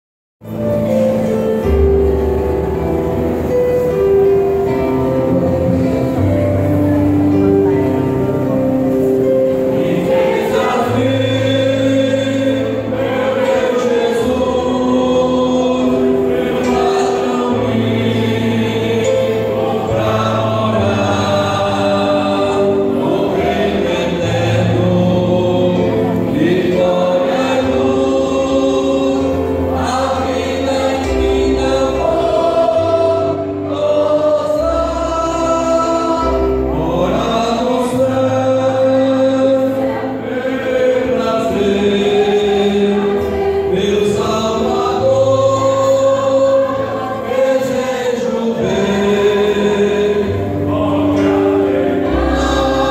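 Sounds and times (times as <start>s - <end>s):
mixed choir singing: 0.4s - 52.9s.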